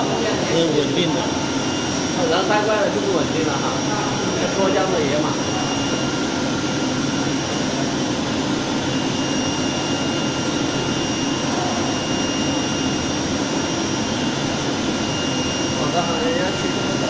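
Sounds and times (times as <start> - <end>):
cutting machine rushing drone: 0.0 - 17.0.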